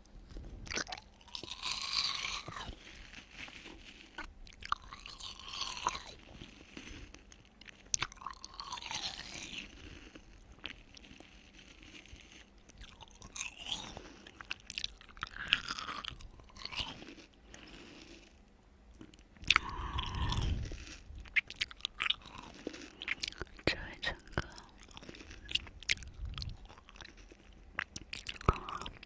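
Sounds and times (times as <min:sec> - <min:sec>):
crunchy watermelon bites and chewing: 0:00.0 - 0:29.0.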